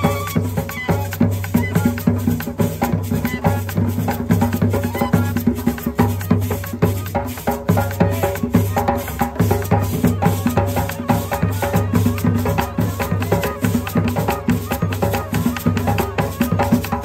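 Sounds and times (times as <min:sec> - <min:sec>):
upbeat percussion-led music: 0:00.0 - 0:17.0.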